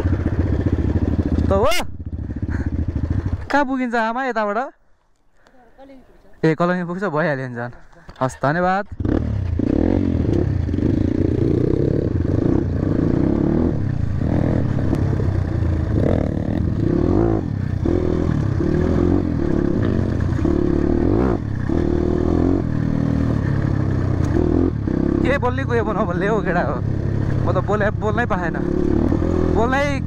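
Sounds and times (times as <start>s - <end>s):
motorcycle engine revving: 0.0s - 3.6s, 8.9s - 30.0s.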